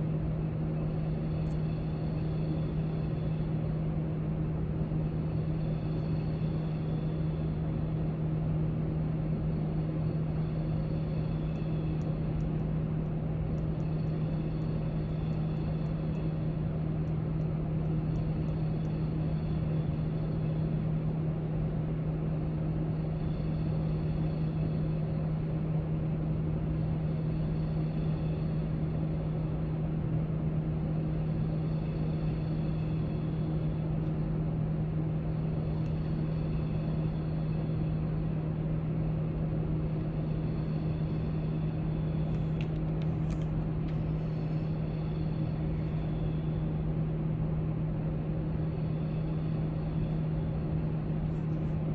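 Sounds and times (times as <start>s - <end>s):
low hum and rumble: 0.0s - 51.9s.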